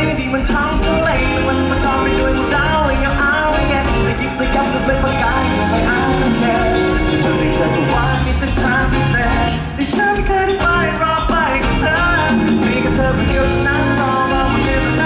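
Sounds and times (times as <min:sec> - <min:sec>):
loud amplified accompaniment: 0:00.0 - 0:15.0
man singing into microphone: 0:00.0 - 0:15.0.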